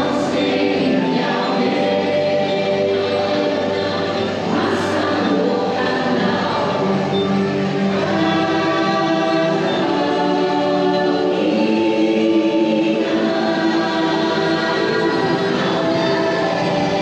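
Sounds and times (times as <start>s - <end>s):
background music: 0.0s - 17.0s
wordless choir singing: 0.0s - 17.0s.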